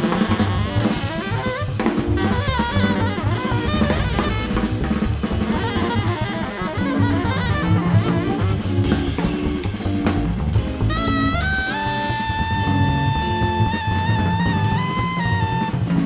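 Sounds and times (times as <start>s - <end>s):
double bass notes: 0.0s - 16.0s
drum kit: 0.0s - 16.0s
electric guitar lines: 0.0s - 16.0s.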